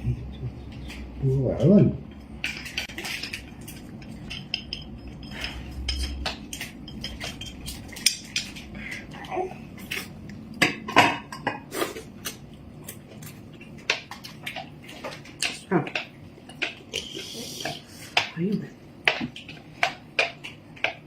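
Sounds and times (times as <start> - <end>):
utensils clinking against dishes: 0.6 - 21.0.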